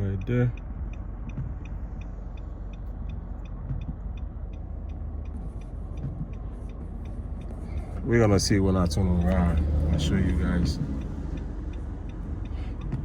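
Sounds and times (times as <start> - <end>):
car turn signal ticking: 0.0 - 13.0
low rumble of car driving: 0.0 - 13.0.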